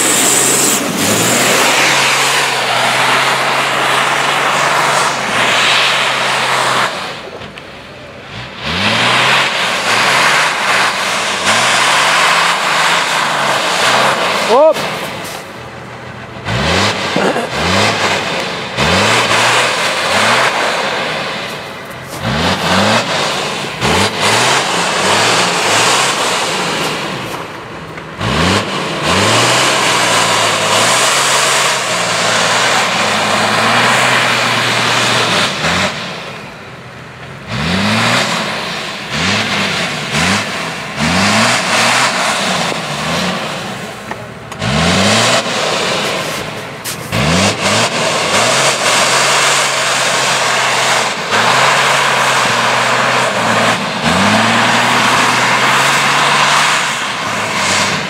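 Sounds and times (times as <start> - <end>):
diesel engine revving: 0.0 - 58.0
tyres spinning in snow: 0.0 - 58.0.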